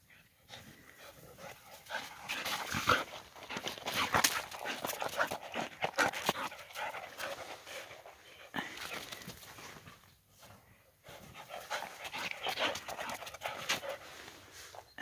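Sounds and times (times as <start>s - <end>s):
paws crunching in snow: 0.5s - 15.0s.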